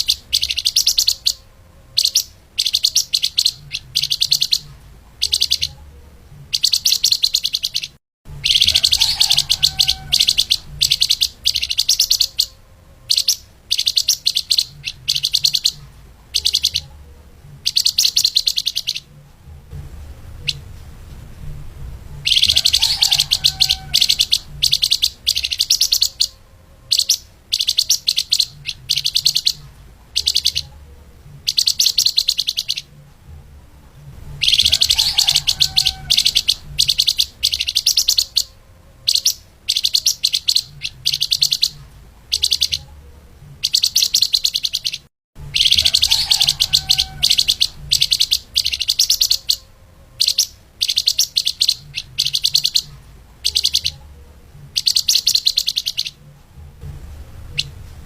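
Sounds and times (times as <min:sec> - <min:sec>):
faint low hum: 0:00.0 - 0:58.0
songbird chirping: 0:00.0 - 0:58.0.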